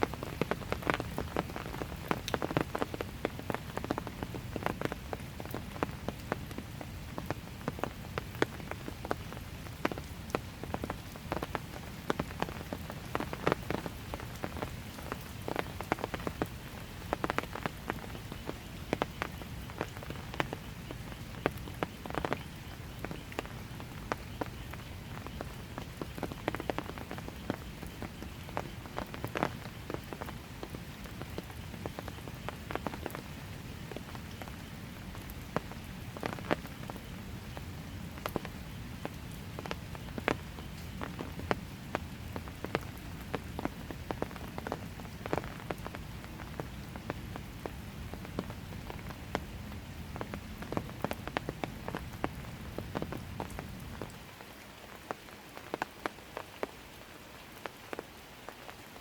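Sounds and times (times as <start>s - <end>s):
raindrops ticking: 0.0s - 59.0s
steady rain falling: 0.0s - 59.0s.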